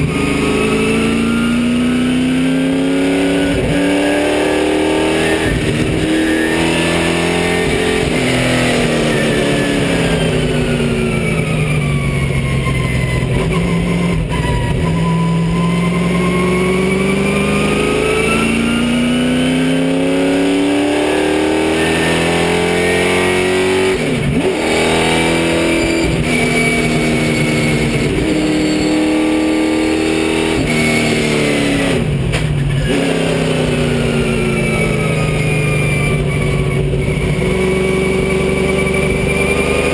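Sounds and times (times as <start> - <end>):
race car engine in cockpit: 0.0 - 39.9.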